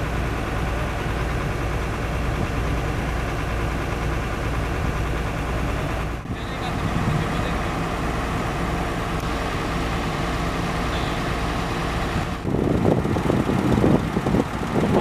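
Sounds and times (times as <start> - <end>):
heavy diesel engine idling: 0.0 - 15.0.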